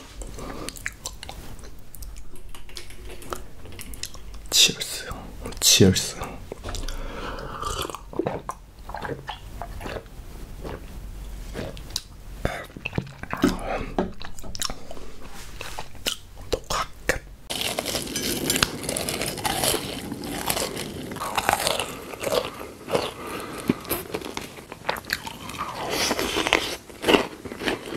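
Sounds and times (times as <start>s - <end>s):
person chewing crunchy food: 0.0s - 27.9s.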